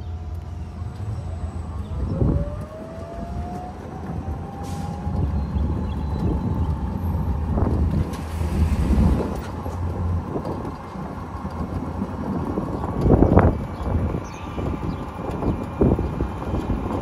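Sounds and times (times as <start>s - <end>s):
tyres rumbling on brick pavers: 0.0s - 17.0s.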